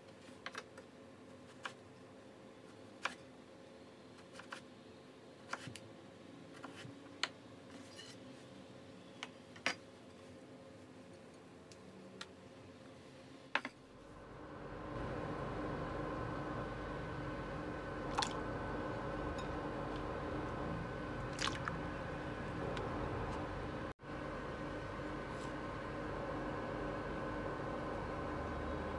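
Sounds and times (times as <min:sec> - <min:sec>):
steady hum with faint whine: 0:00.0 - 0:28.9.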